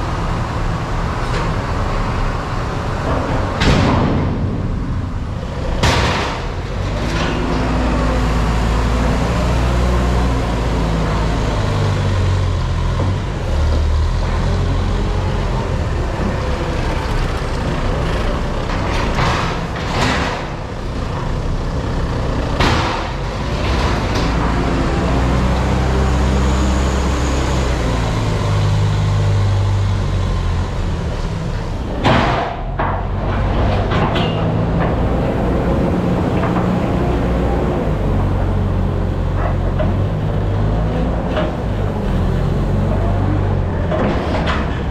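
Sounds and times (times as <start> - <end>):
diesel machinery engine running: 0.0 - 44.9.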